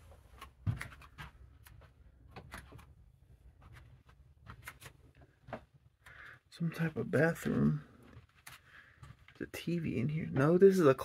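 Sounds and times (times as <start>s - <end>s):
small knocks and rustles: 0.0s - 6.2s, 6.8s - 10.8s
footsteps in a room: 0.0s - 10.8s.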